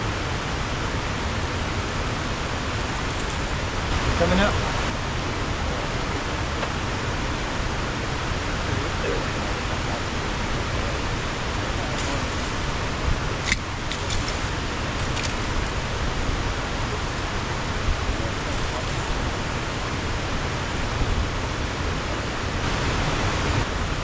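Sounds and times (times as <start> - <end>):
water rushing over a dam: 0.0 - 24.0.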